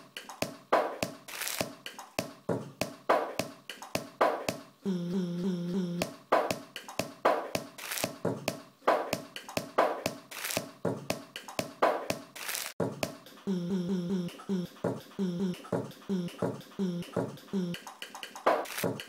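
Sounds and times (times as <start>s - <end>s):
beatbox-like percussion hits: 0.0s - 4.7s, 5.3s - 19.0s.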